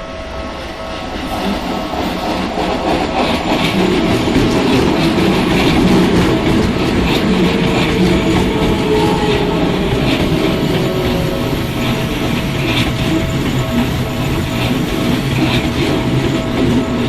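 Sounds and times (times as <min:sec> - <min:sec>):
electric train passing: 0:00.0 - 0:17.0
train wheels clacking over rail joints: 0:01.1 - 0:17.0.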